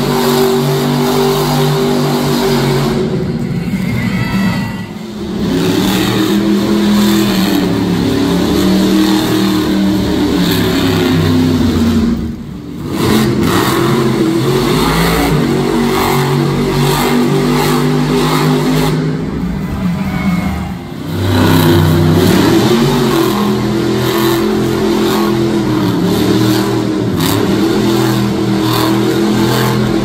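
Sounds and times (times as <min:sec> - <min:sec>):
monster truck engines revving: 0:00.0 - 0:30.0.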